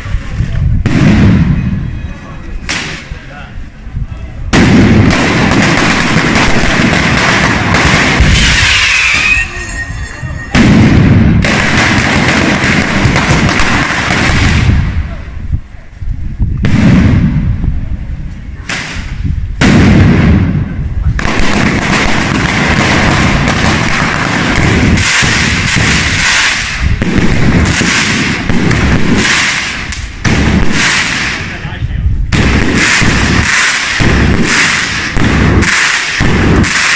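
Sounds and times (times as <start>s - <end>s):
firecrackers crackling: 0.0s - 36.9s.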